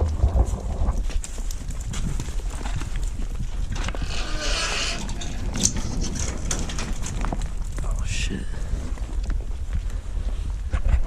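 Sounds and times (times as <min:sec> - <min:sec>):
scraping rustle: 0:00.0 - 0:11.0.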